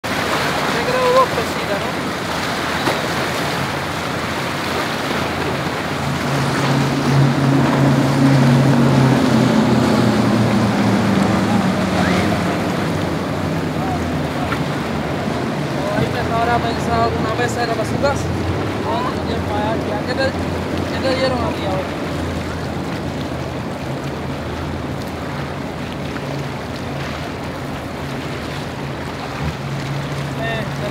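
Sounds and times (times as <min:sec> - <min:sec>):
boat engines passing: 0:00.0 - 0:30.9
rushing water: 0:00.0 - 0:30.9.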